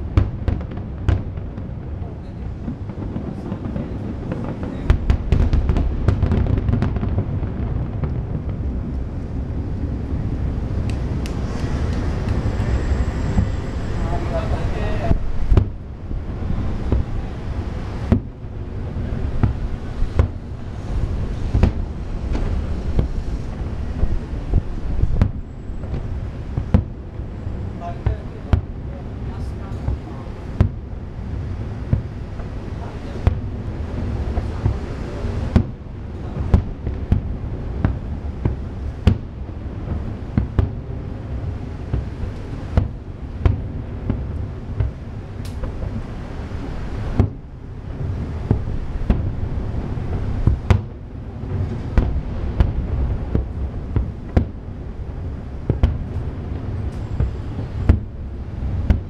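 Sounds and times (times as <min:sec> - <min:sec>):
fireworks bursting with sharp bangs: 0:00.0 - 0:59.0
steady low rumble: 0:00.0 - 0:59.0.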